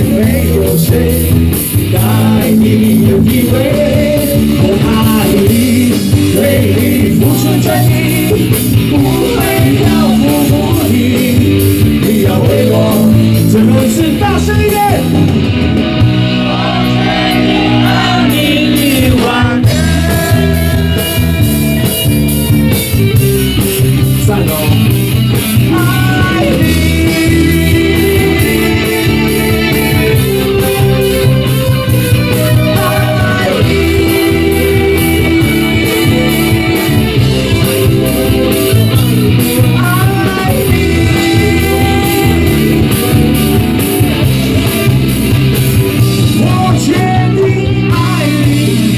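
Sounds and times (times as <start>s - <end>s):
guitar melody: 0.0s - 48.9s
live rock band playing: 0.0s - 48.9s.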